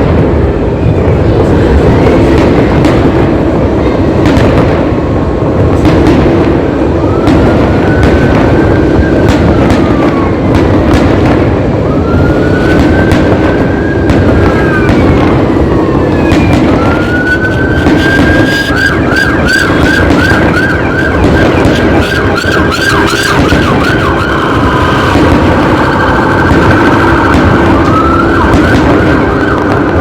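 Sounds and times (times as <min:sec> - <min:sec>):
emergency siren wailing: 0:00.0 - 0:30.0
fireworks crackling and banging: 0:00.0 - 0:30.0.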